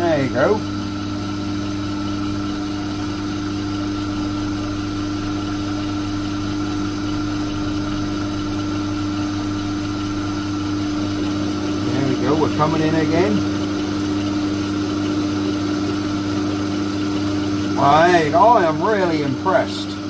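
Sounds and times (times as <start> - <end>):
lathe motor hum and whine: 0.0 - 20.0.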